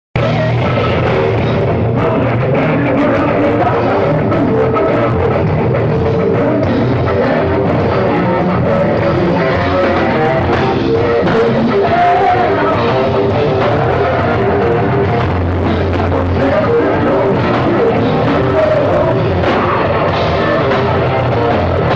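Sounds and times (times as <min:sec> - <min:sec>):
drum kit: 0:00.2 - 0:21.9
electric guitar: 0:00.2 - 0:21.9.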